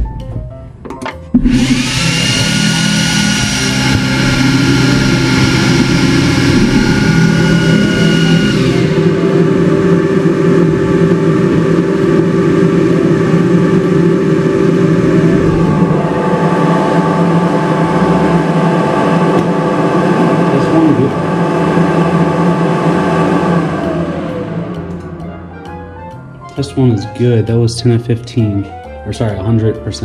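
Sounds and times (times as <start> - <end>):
machine whirring with whine: 1.4 - 25.7
low steady machine hum: 1.5 - 25.7.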